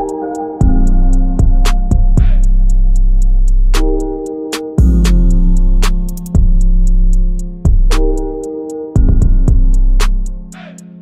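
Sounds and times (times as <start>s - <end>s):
deep bass line: 0.0s - 10.6s
held synth chords: 0.0s - 11.0s
ticking hi-hat: 0.0s - 11.0s.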